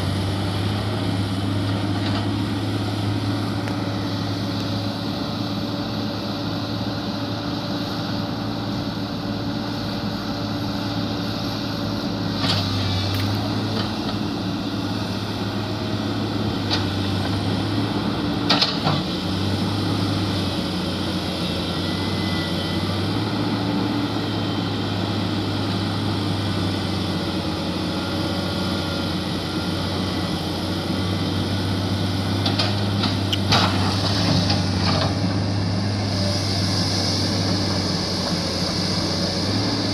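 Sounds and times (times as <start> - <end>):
heavy machinery diesel engines: 0.0 - 39.9.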